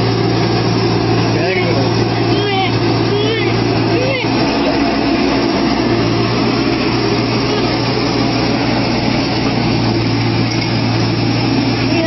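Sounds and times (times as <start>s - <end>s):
large engine humming steadily: 0.0s - 12.0s.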